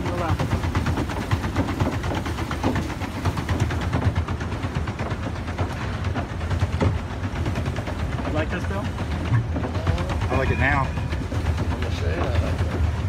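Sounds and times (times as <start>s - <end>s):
paddle-wheel clattering knocks: 0.0s - 13.0s
paddle-wheel low rumble: 0.0s - 13.0s.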